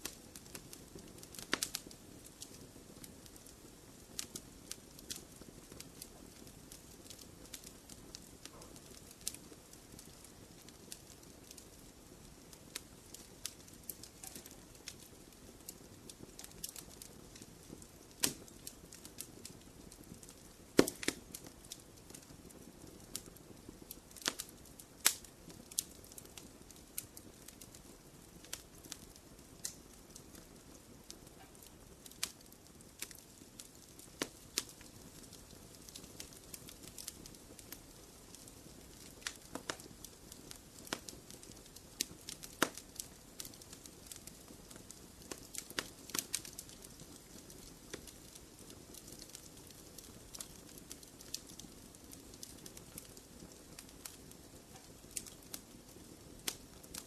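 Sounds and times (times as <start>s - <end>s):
low hiss of flames: 0.0s - 57.0s
wood fire popping and snapping: 0.0s - 57.0s.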